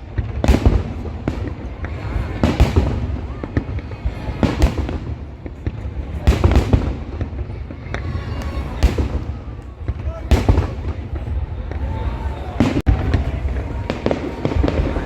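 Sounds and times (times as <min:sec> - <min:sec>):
fireworks booming and crackling: 0:00.0 - 0:15.0
low rumble of fireworks show: 0:00.0 - 0:15.0.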